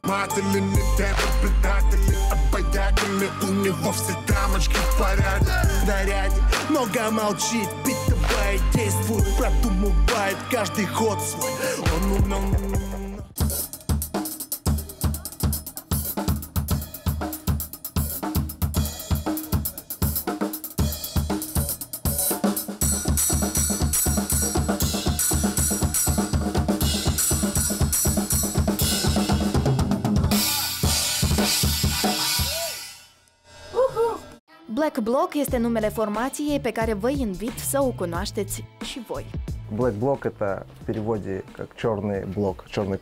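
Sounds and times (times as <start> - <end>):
fast drum kit beat: 0.0 - 33.0, 35.5 - 41.2.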